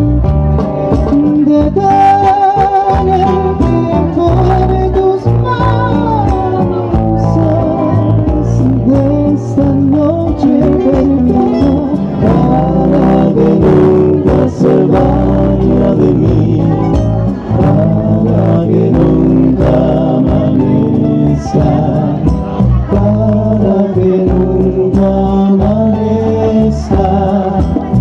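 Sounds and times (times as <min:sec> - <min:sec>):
electric bass: 0:00.0 - 0:28.0
plucked guitars: 0:00.0 - 0:28.0
man singing with vibrato: 0:00.8 - 0:28.0.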